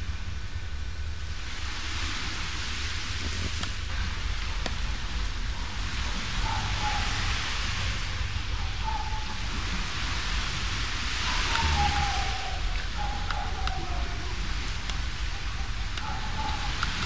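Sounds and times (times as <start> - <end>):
steady hiss with low rumble: 0.0 - 17.0.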